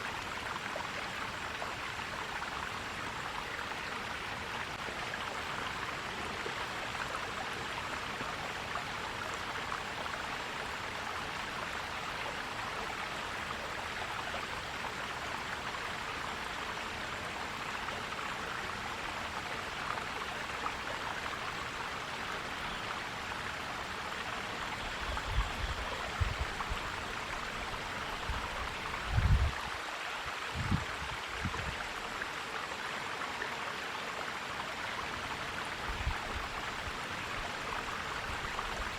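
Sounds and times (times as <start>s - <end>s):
stream flowing and gurgling: 0.0s - 38.9s.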